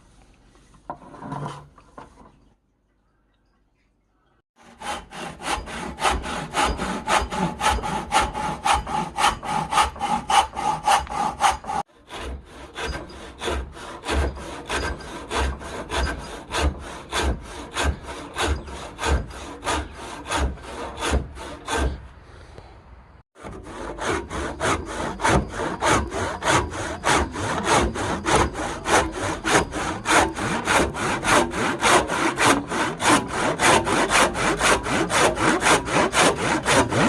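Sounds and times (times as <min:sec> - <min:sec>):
hand saw cutting wood: 0:04.6 - 0:22.4, 0:23.3 - 0:37.0.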